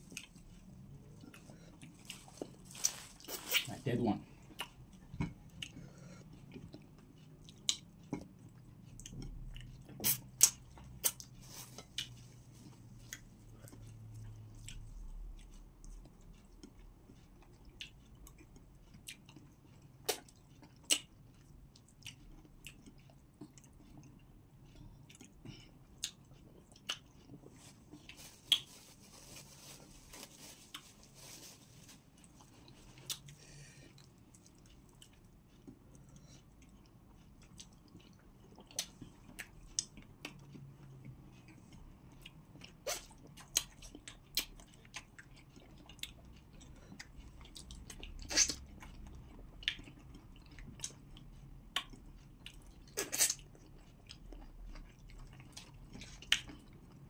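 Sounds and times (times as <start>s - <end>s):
people chewing food: 0.0s - 57.0s.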